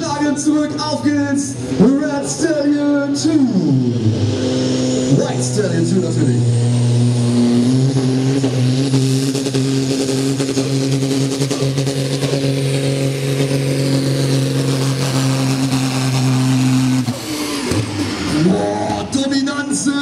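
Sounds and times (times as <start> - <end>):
tractor diesel engine at high revs: 0.0 - 20.0.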